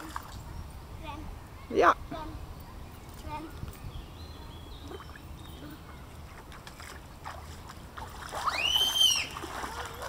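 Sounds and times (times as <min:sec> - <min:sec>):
faint outdoor background: 0:00.0 - 0:10.0.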